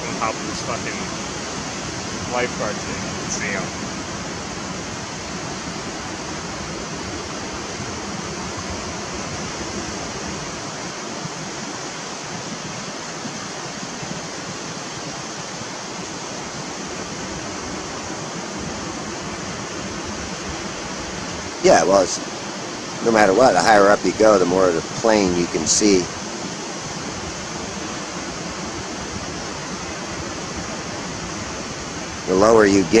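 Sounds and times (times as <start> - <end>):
ocean surf rushing: 0.0 - 33.0.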